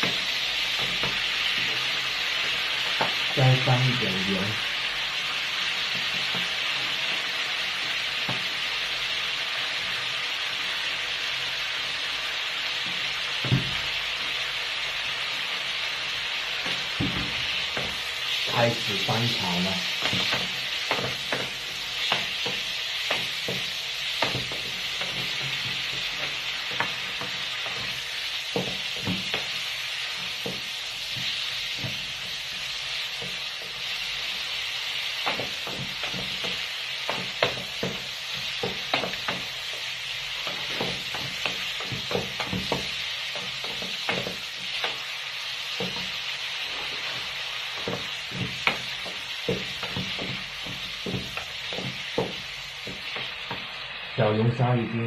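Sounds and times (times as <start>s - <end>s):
spatula scraping and knocking pan: 0.0s - 12.0s, 15.1s - 53.9s
crayfish sizzling in hot oil: 0.0s - 55.0s.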